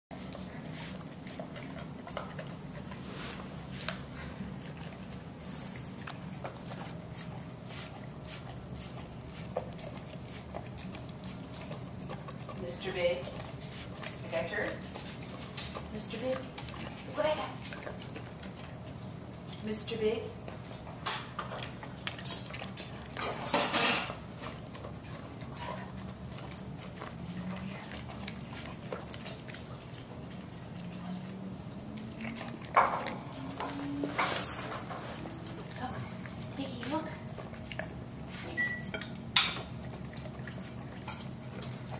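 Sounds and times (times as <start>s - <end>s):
dog licking a plate: 0.1s - 41.9s.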